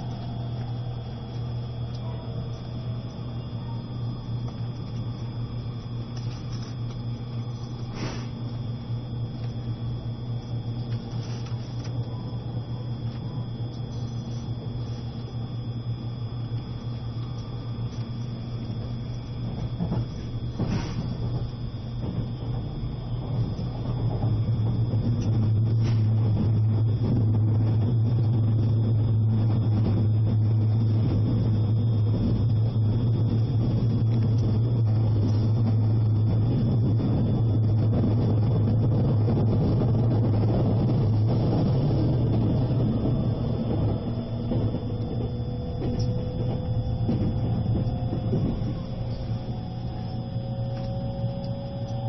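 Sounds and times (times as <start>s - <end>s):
train cabin hum: 0.0s - 52.0s.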